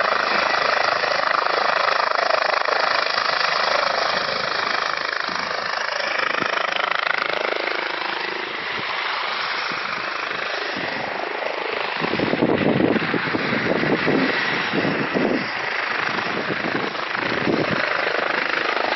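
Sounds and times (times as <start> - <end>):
helicopter engine and rotor: 0.0 - 18.9.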